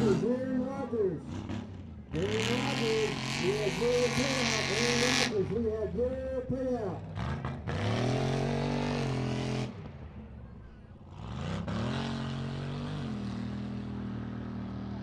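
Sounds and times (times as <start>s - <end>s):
truck engine revving: 0.0s - 9.9s, 11.1s - 15.0s.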